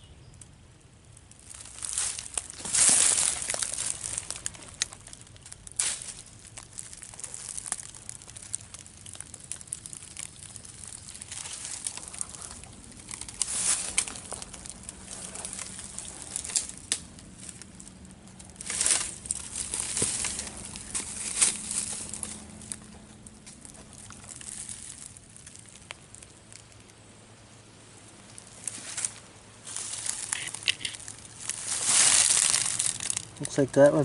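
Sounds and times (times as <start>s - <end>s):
footsteps crunching through dry leaves: 1.3s - 26.8s, 28.2s - 34.0s.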